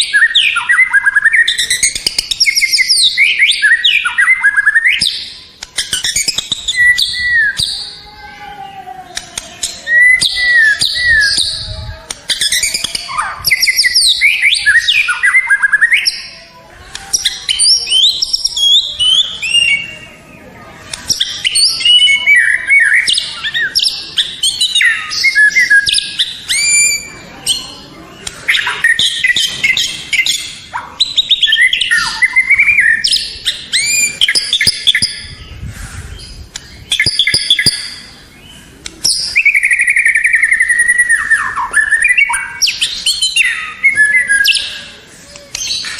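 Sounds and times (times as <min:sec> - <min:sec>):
bird singing whistles and chatters: 0:00.0 - 0:08.2, 0:09.1 - 0:45.9.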